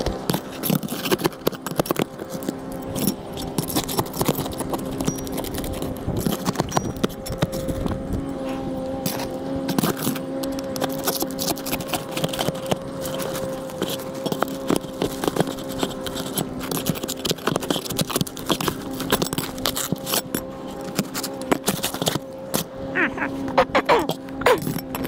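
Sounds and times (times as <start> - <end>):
hand tools scraping roof shingles: 0.0 - 25.0
steady hum: 0.0 - 25.0.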